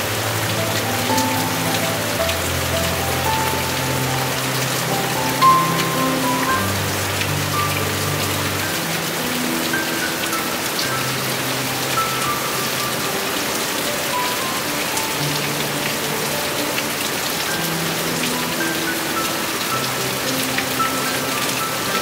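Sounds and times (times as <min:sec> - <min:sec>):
heavy rain falling: 0:00.0 - 0:22.0
soft music with held notes: 0:00.0 - 0:22.0.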